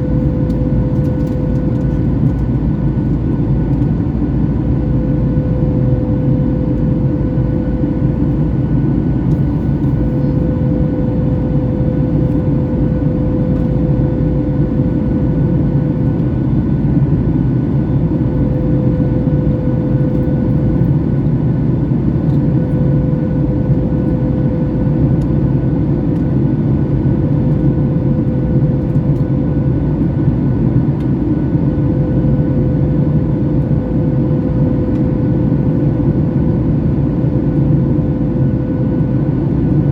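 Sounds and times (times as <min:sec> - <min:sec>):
constant humming tone: 0:00.0 - 0:39.9
jet engine drone: 0:00.0 - 0:39.9.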